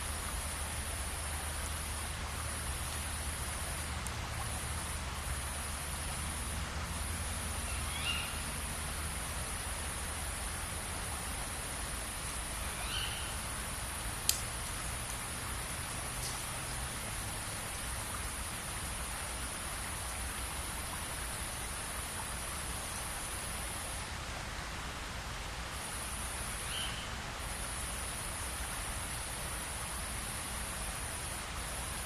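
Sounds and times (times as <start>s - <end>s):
steady rushing hiss: 0.0s - 32.0s.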